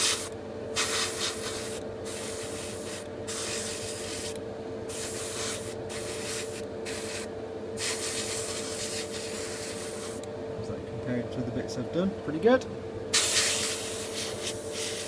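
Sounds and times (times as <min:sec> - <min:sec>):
airbrush spraying hiss: 0:00.0 - 0:10.2, 0:13.1 - 0:15.0
steady hum: 0:00.0 - 0:15.0.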